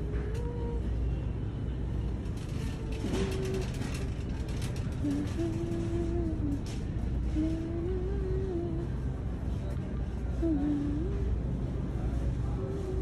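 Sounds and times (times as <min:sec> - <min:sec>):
store background rumble: 0:00.0 - 0:13.0.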